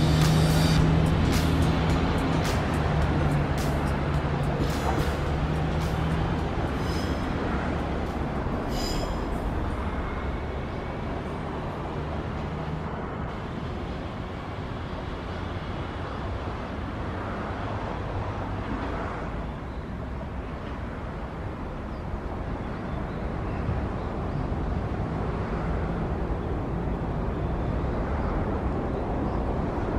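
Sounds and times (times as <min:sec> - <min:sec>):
diesel railcar engine running: 0:00.0 - 0:29.9.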